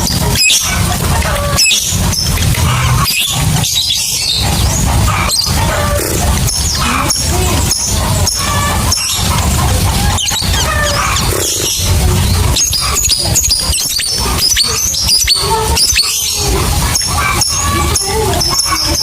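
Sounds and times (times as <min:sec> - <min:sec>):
lovebirds chattering: 0:00.0 - 0:19.0.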